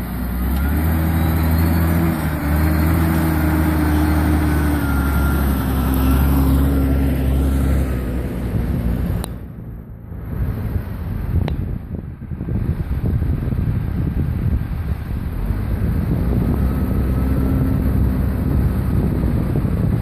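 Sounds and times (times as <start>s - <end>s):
tractor diesel engine passing: 0.0s - 20.0s.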